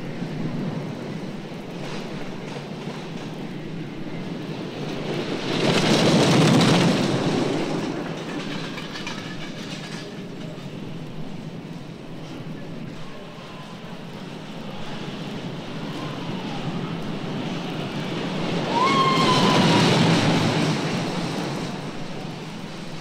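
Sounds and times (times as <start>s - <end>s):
train passing by: 0.0s - 23.0s.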